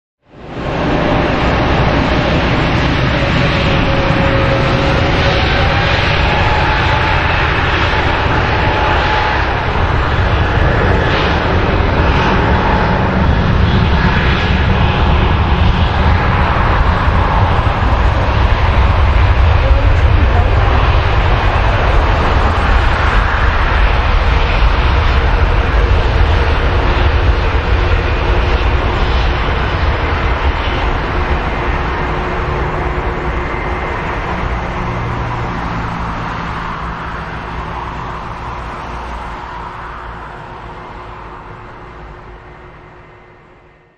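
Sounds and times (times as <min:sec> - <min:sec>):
jet airliner taking off: 0:00.2 - 0:43.9.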